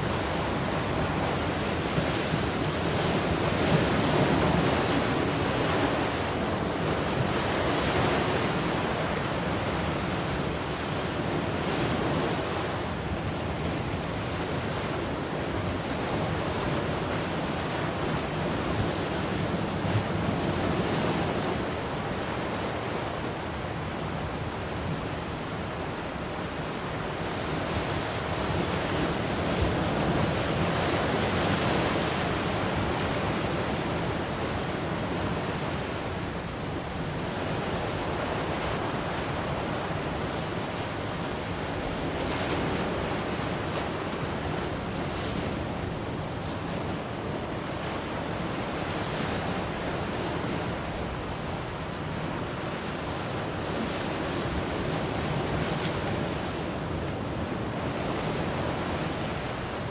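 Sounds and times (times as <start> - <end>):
ocean waves breaking on shore: 0.0 - 59.9
wind: 0.0 - 59.9.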